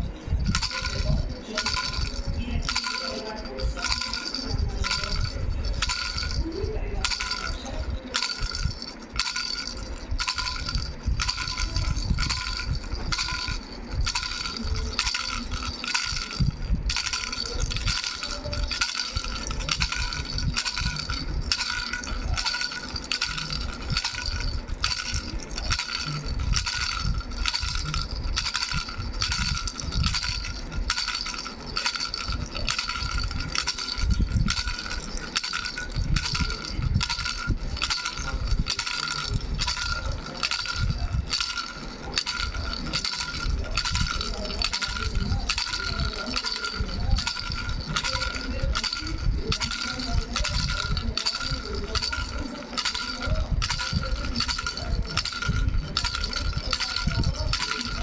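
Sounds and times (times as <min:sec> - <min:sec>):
rattle bells jingling: 0:00.0 - 0:58.0.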